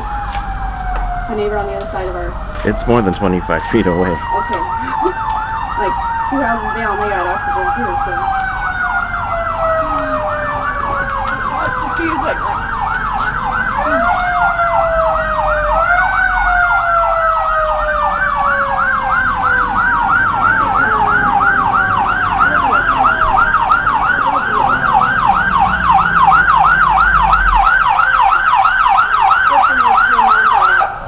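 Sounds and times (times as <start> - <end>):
siren tone sliding down: 0.0 - 30.9
siren yelping: 0.0 - 31.0.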